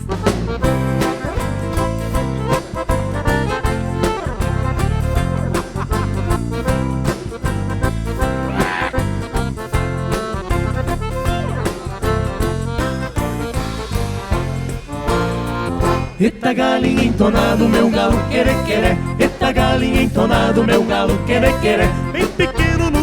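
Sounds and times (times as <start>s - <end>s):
accordion dance music: 0.0s - 23.0s.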